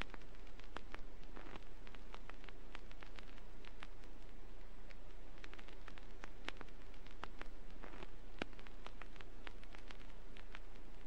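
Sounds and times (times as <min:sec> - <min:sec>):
steady hiss: 0:00.0 - 0:11.0
vinyl crackles and pops: 0:00.0 - 0:11.0.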